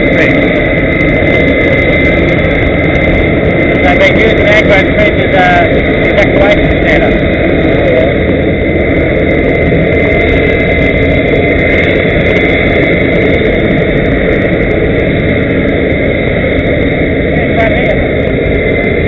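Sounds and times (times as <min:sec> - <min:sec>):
jet engines with high whine: 0:00.0 - 0:19.0.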